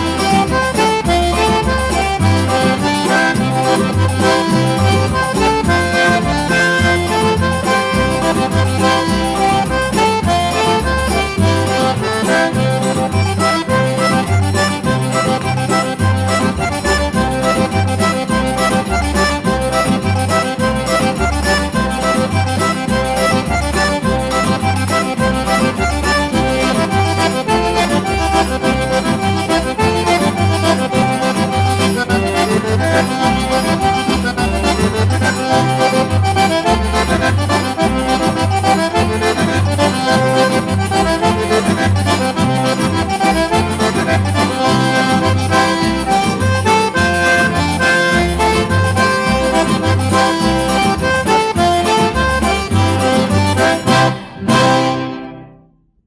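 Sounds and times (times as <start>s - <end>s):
bass notes beat: 0.0s - 55.4s
accordion music: 0.0s - 56.0s.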